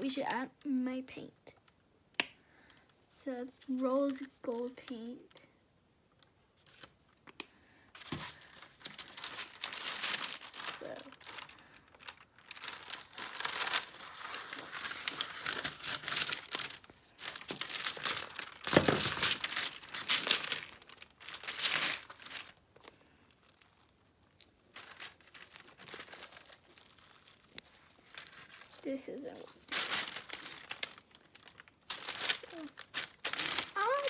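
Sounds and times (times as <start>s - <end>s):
parchment paper crinkling: 2.5s - 5.5s, 6.1s - 34.0s.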